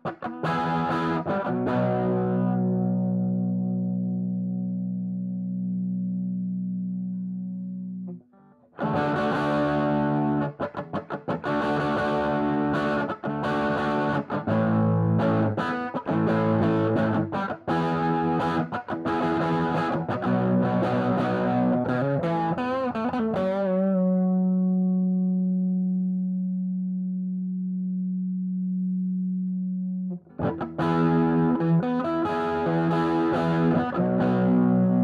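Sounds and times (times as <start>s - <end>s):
distorted electric guitar: 0.0s - 26.2s, 29.8s - 35.0s.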